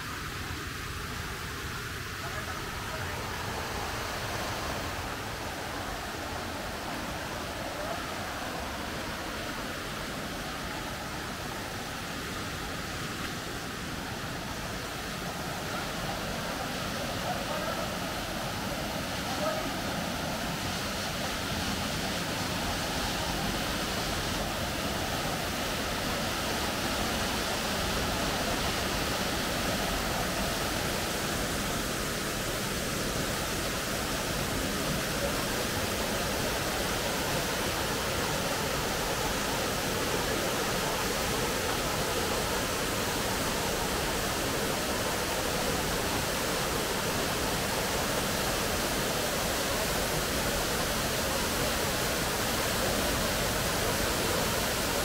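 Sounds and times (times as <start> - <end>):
waterfall: 0.0 - 55.0.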